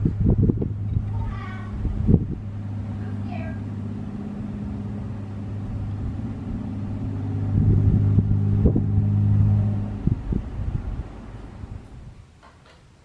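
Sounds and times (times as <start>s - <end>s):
low motor hum: 0.0s - 12.2s.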